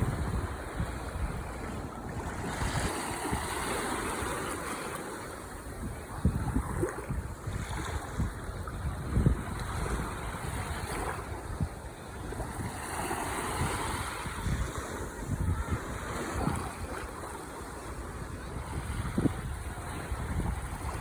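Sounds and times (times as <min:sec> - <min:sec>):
wind buffeting microphone: 0:00.0 - 0:04.7, 0:05.3 - 0:21.0
ocean waves washing ashore: 0:00.0 - 0:21.0.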